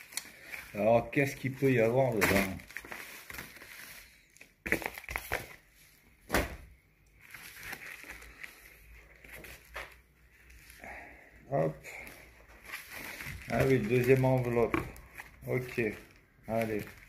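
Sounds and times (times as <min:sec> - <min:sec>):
padded envelope rustling: 0:00.0 - 0:05.6, 0:07.2 - 0:10.8, 0:12.0 - 0:17.0.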